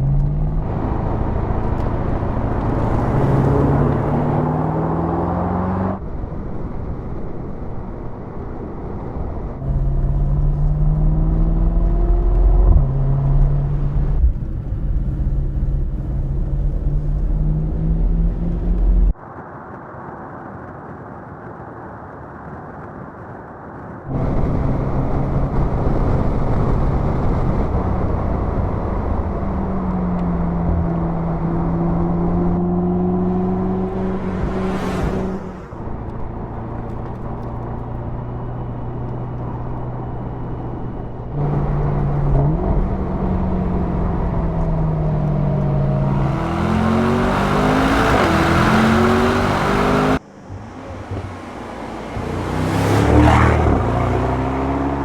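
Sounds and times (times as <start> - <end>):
car engine and exhaust: 0.0 - 19.2, 24.1 - 55.0.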